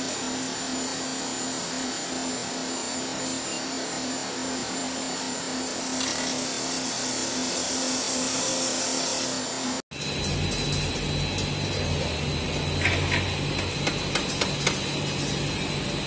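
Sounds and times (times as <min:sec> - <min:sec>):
machinery hum and hiss: 0:00.0 - 0:16.0.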